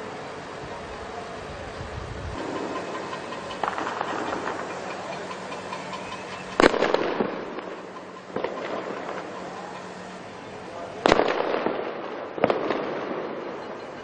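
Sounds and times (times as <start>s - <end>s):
crackling: 2.4s - 14.0s.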